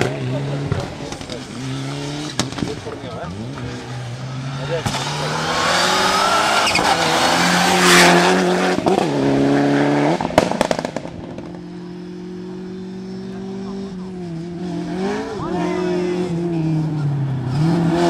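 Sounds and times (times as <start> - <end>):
rally car engine at high revs: 0.0 - 18.0
second car engine approaching: 0.0 - 18.0.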